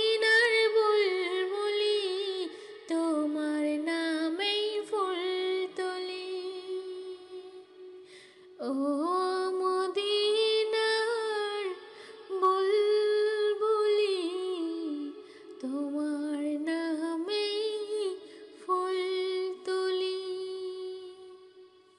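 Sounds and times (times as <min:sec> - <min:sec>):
woman singing wordless melody: 0:00.0 - 0:21.9.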